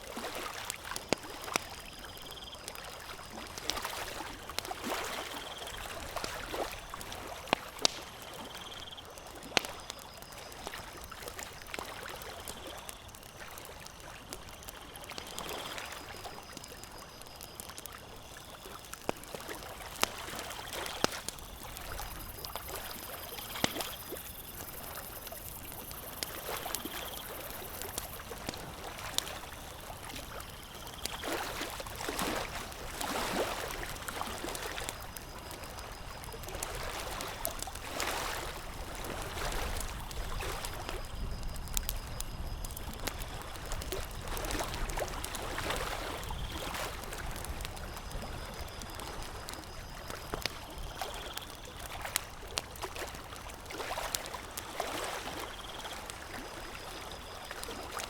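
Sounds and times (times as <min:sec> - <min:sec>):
campfire crackling: 0:00.0 - 0:58.0
small waves lapping at shore: 0:00.0 - 0:58.0.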